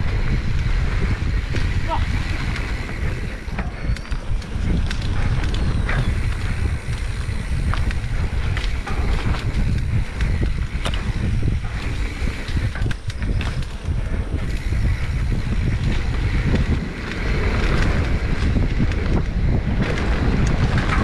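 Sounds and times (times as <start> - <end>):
bike clicks and rattles: 0.0 - 21.0
low rumble of bike riding: 0.0 - 21.0
wind buffeting microphone: 0.0 - 21.0.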